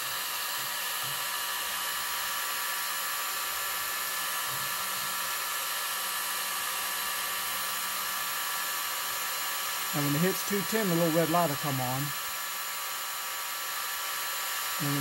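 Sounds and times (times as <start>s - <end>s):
heat gun fan whirring: 0.0s - 15.0s.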